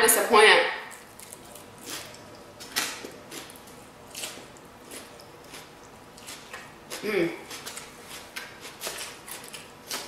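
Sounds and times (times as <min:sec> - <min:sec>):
person chewing salad: 0:00.9 - 0:10.0.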